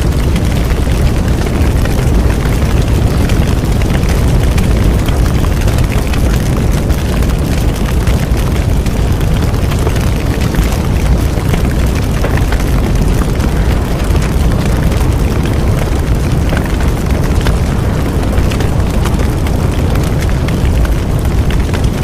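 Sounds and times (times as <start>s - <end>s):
bonfire flames rumbling: 0.0s - 22.0s
burning wood crackling and popping: 0.0s - 22.0s.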